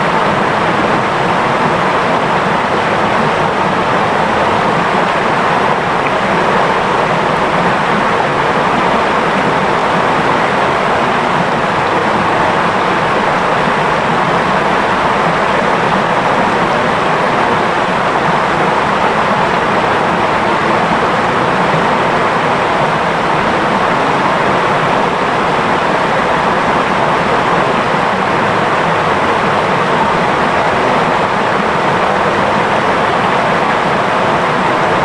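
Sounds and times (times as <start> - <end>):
river water babbling: 0.0 - 35.0.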